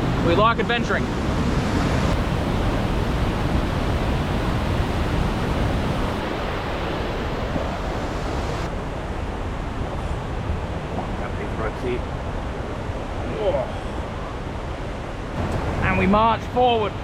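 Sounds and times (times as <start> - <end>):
river water rushing over rapids: 0.0 - 11.2, 12.0 - 17.0.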